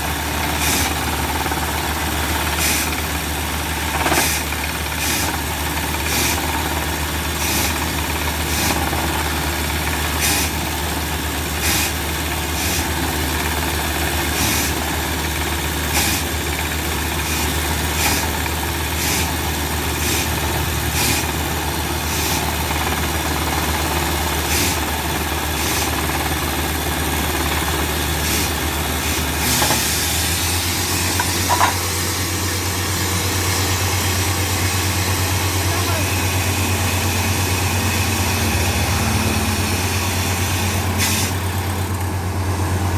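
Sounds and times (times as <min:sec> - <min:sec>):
drilling rig engine running: 0:00.0 - 0:42.9.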